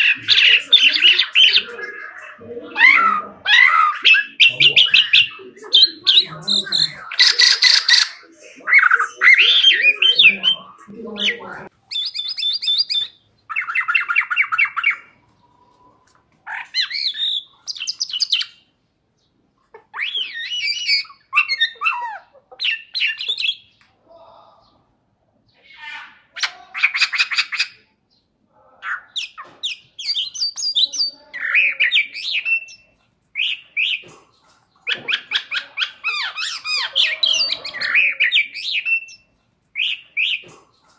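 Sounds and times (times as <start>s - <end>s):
blackbird singing: 0.0s - 40.9s.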